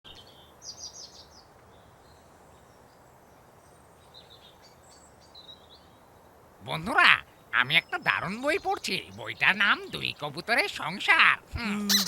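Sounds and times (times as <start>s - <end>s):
low steady hiss: 0.1s - 12.0s.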